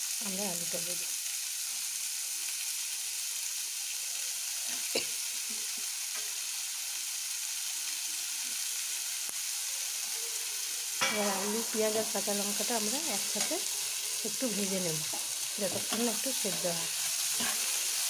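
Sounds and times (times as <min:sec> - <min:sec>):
onion sizzling in hot oil: 0:00.0 - 0:18.0.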